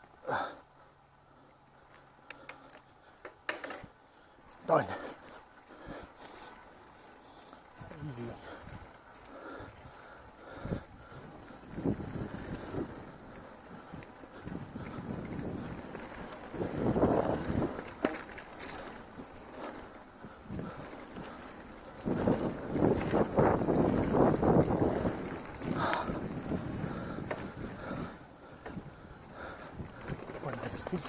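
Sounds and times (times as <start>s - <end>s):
bike tyres on dirt trail: 0.0s - 31.0s
bike rattling: 1.8s - 31.0s.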